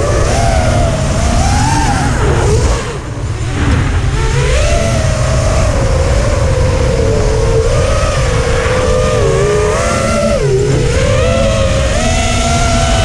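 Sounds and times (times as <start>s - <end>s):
drone motors whining: 0.0s - 13.0s
wind rumble on microphone: 0.0s - 13.0s.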